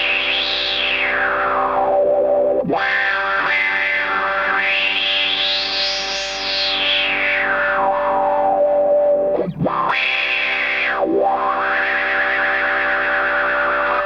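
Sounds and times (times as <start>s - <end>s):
distorted electric guitar notes: 0.0s - 14.0s.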